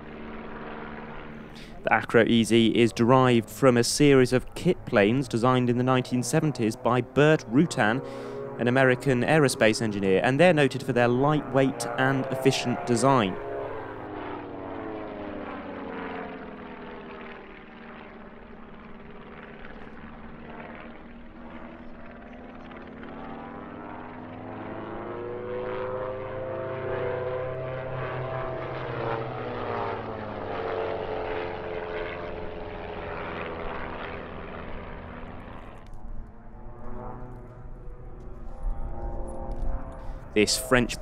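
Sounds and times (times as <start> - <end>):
propeller aircraft engines overhead: 0.0 - 41.0.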